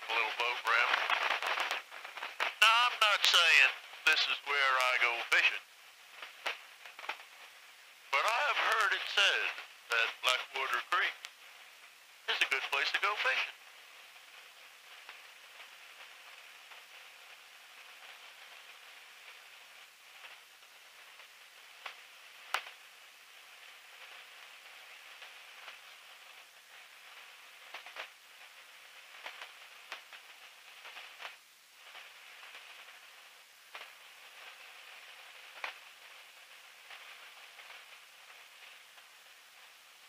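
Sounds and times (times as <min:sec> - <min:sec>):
clicks and crackles: 0:00.0 - 0:40.0
faint intercom hiss: 0:00.0 - 0:40.0.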